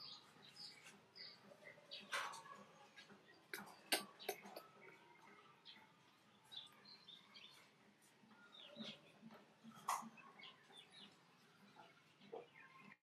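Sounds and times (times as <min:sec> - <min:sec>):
faint high chirps and squeaks: 0:00.0 - 0:13.0.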